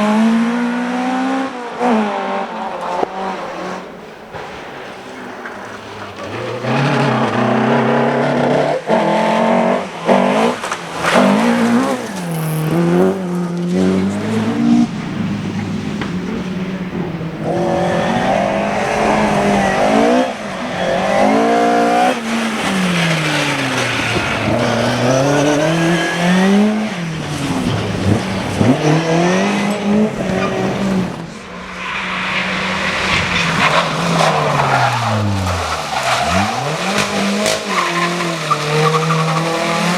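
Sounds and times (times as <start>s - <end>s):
rally car engines revving: 0.0s - 39.9s
tyres skidding: 0.0s - 39.9s.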